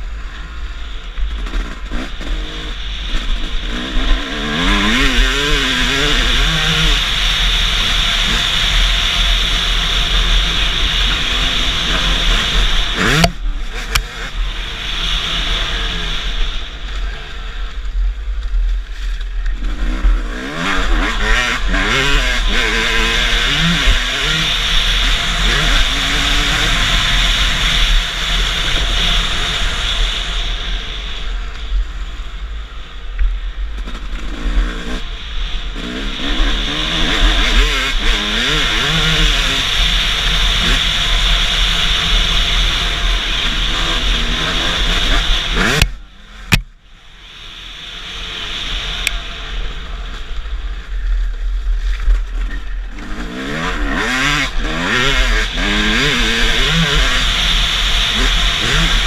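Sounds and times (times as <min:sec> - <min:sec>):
motocross bike engine revving: 0:00.0 - 0:59.0
steady rushing noise: 0:00.0 - 0:59.0.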